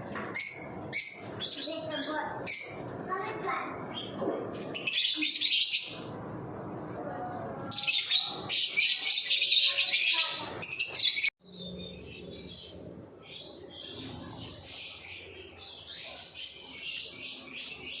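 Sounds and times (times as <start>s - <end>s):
lovebirds chirping and chattering: 0.0s - 6.2s, 7.5s - 18.0s.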